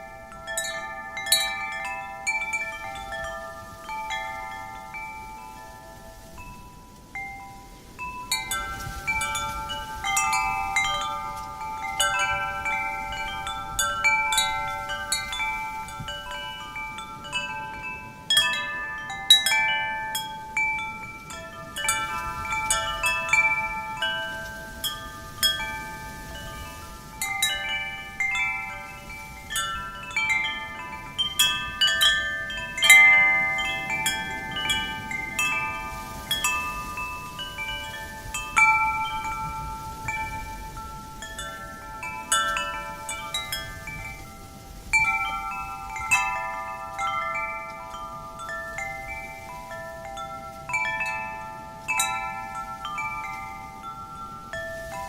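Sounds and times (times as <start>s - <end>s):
faint wind: 0.0s - 55.0s
metal wind chimes ringing: 0.0s - 55.0s.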